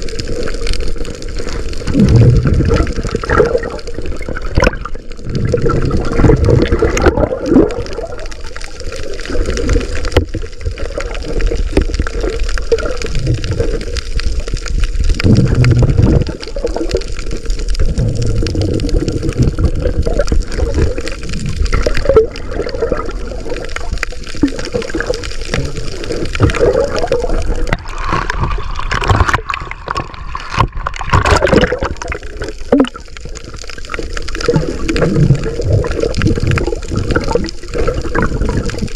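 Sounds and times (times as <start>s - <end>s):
underwater rushing water: 0.0s - 38.9s.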